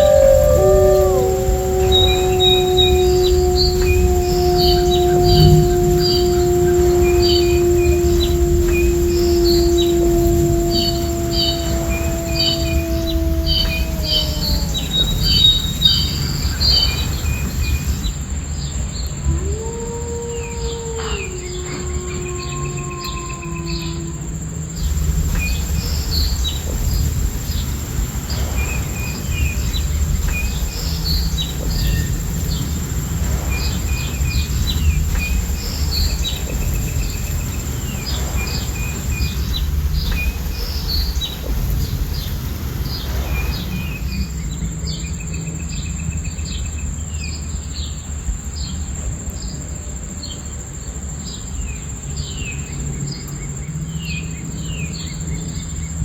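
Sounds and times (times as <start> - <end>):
low rushing rumble: 0.0 - 46.6
songbirds chirping: 0.0 - 48.8
crickets trilling: 0.0 - 56.0.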